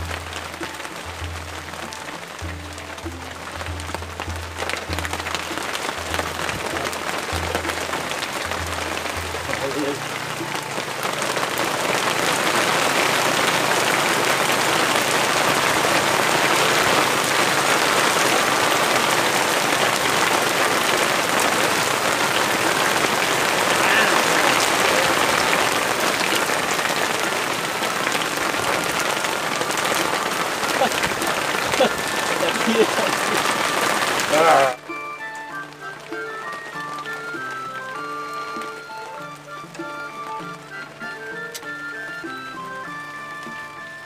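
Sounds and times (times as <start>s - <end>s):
heavy rain on water: 0.0s - 44.0s.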